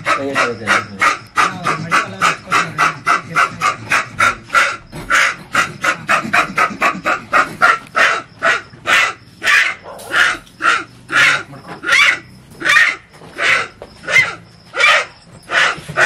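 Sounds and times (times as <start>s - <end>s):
monkey rasping distress calls: 0.0s - 16.0s.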